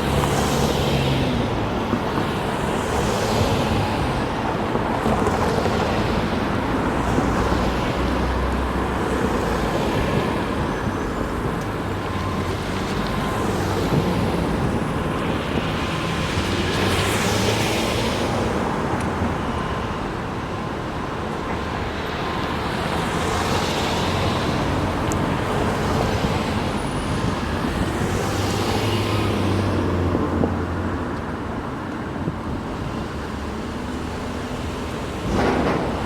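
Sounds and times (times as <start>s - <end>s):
road traffic noise: 0.0s - 36.0s
vehicles passing: 0.0s - 36.0s.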